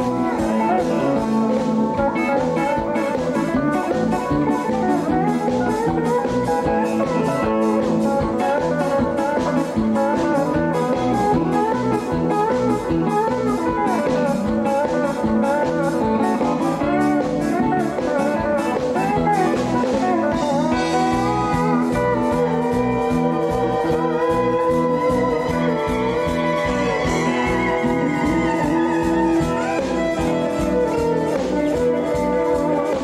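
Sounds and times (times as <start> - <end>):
country band playing: 0.0 - 33.0
steel guitar melody: 0.0 - 33.0.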